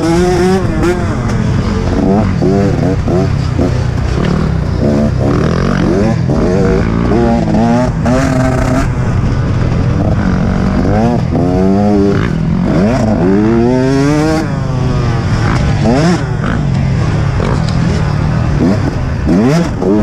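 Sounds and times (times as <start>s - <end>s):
dirt bike engines revving: 0.0s - 20.0s
steady low rumble: 0.2s - 20.0s.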